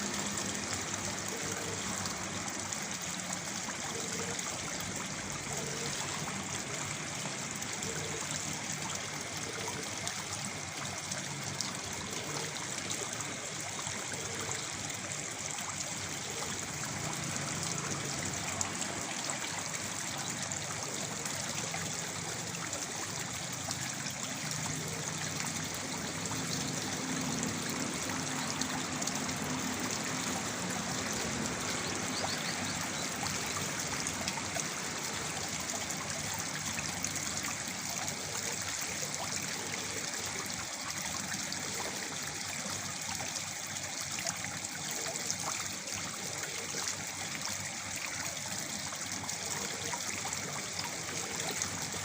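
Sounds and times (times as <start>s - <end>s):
small waterfall splashing: 0.0s - 52.0s.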